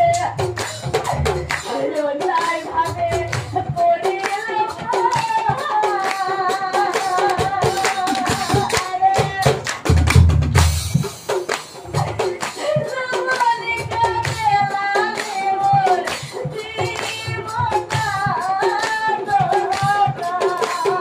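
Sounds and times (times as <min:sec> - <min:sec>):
woman singing: 0:00.0 - 0:00.5, 0:01.5 - 0:09.7, 0:12.0 - 0:21.0
sharp percussive strikes: 0:00.0 - 0:21.0.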